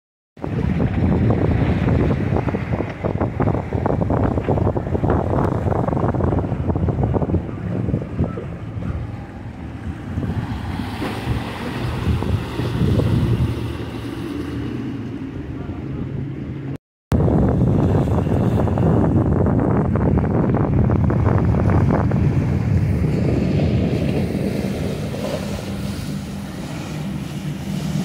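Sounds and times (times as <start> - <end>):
choppy sea: 0.4 - 28.0
outboard boat engine droning: 0.4 - 28.0
wind buffeting the microphone: 0.4 - 28.0.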